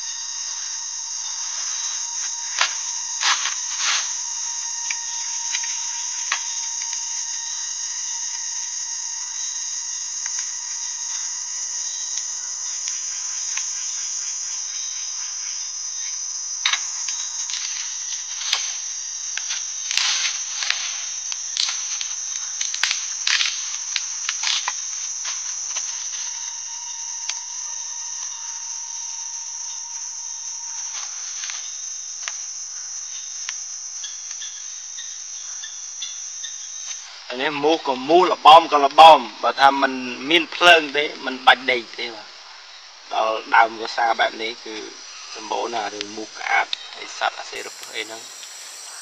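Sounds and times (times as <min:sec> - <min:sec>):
insect chorus shrilling: 0:00.0 - 0:49.0.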